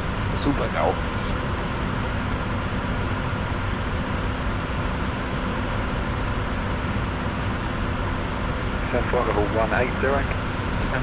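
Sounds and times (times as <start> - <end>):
aircraft cockpit rush: 0.0 - 11.0
faint steady hum: 0.0 - 11.0.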